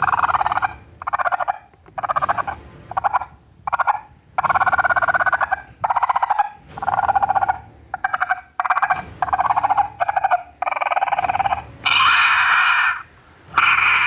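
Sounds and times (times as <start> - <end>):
electronic animal distress chattering: 0.0 - 14.0.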